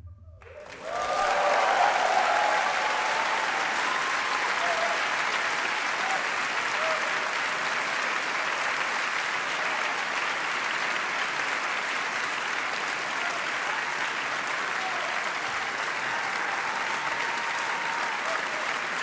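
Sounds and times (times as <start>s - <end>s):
audience applauding: 0.4s - 19.0s.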